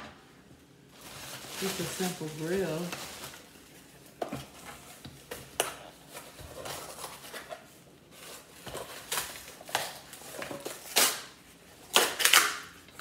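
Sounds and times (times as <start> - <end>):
packaging rustling: 0.9 - 12.8.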